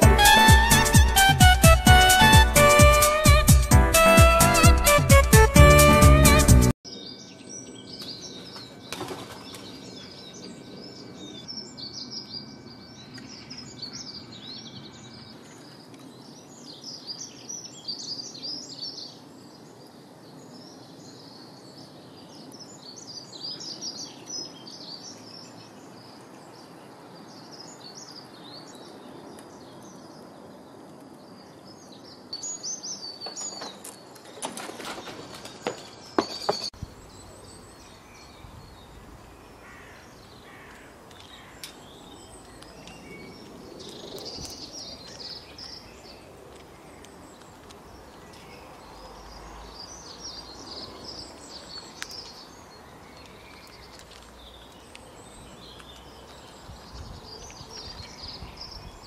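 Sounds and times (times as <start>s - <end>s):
songbirds chirping: 6.9s - 59.0s.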